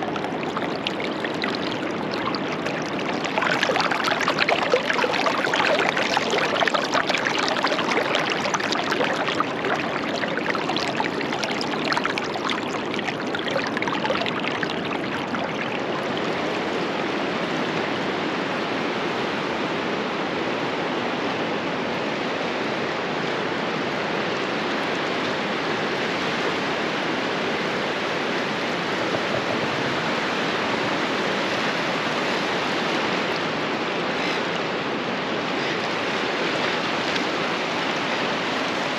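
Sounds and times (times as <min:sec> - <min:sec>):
surf washing on a beach: 0:00.0 - 0:38.9.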